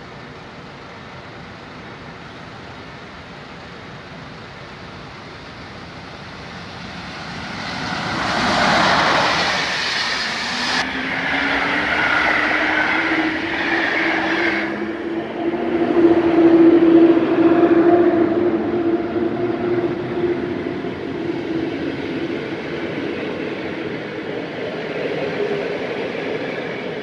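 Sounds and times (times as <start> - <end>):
electric locomotive hum: 0.0 - 27.0
train wheel and rail noise: 0.0 - 27.0.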